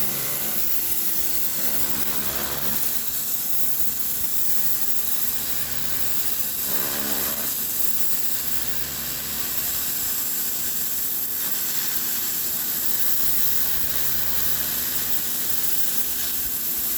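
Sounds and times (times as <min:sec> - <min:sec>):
motor and pump humming: 0:00.0 - 0:16.9
pressure washer water jet hissing: 0:00.0 - 0:16.9.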